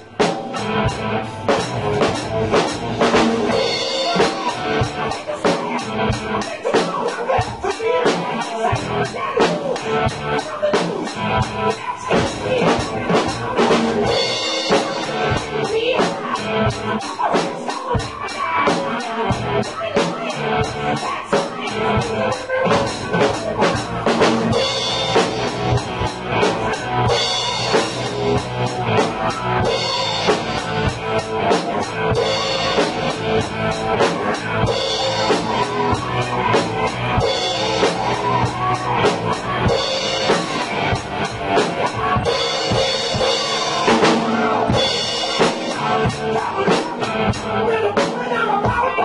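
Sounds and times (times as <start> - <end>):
bass drum and snare beat: 0.0 - 49.0.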